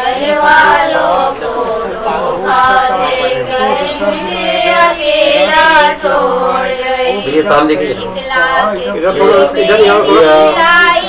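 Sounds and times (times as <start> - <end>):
slow drawn-out singing: 0.0 - 11.0.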